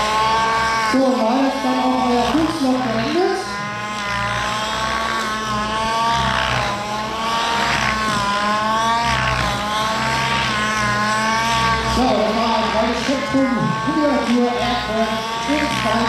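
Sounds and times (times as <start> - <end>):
rc helicopter engine running: 0.0 - 16.0
rushing rotor noise: 0.0 - 16.0.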